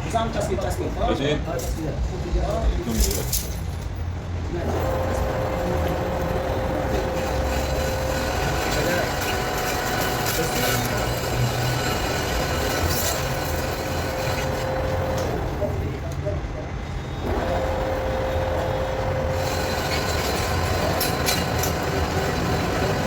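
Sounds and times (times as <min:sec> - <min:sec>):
workshop machine whine: 0:02.0 - 0:23.0.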